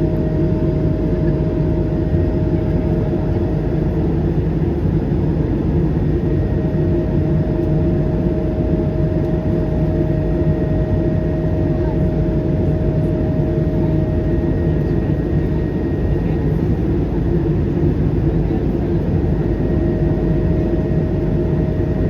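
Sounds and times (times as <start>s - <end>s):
jet engines rumbling in cabin: 0.0s - 22.0s.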